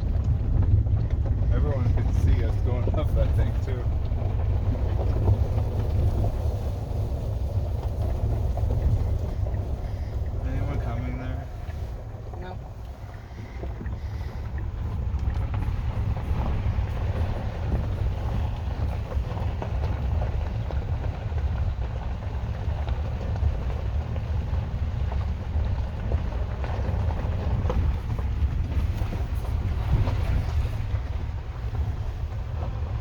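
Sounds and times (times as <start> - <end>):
vehicle rumbling over rough ground: 0.0 - 33.0.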